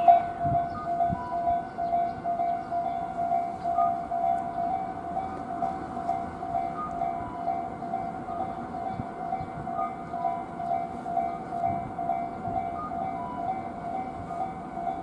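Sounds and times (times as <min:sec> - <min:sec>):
level-crossing alarm clanging: 0:00.0 - 0:15.0.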